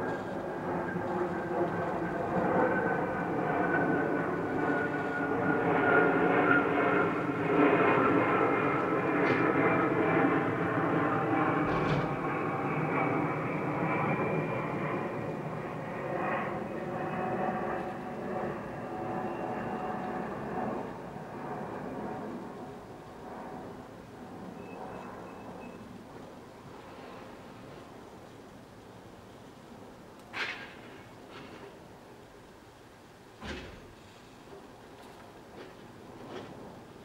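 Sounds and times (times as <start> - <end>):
aircraft drone: 0.0 - 37.0.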